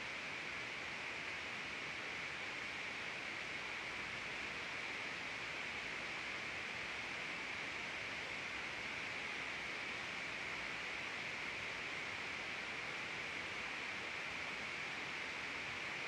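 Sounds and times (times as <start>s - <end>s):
microphone hiss: 0.0s - 16.0s.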